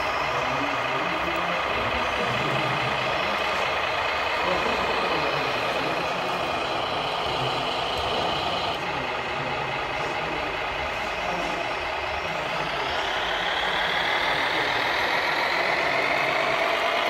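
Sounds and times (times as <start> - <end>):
model machines working: 0.0 - 17.0.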